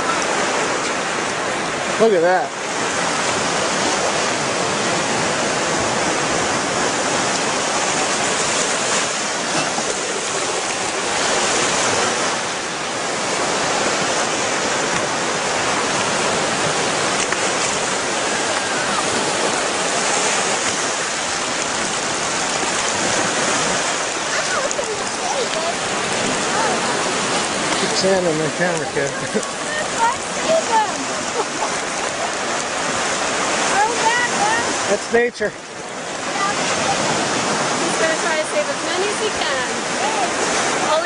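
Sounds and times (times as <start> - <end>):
small waves washing on sand: 0.0 - 41.0.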